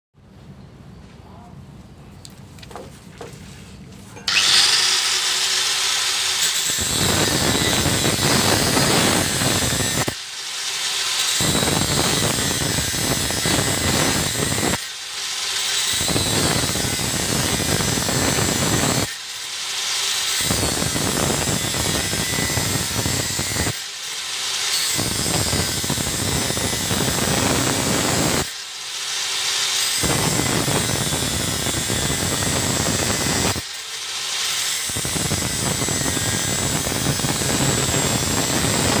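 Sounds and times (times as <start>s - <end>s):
angle grinder cutting metal: 4.3s - 39.0s
grinder spinning free whine: 4.3s - 39.0s.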